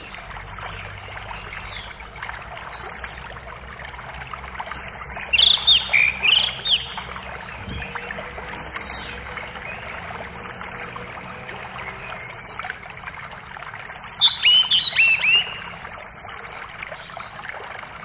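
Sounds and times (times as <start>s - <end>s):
creek running water: 0.0s - 18.0s.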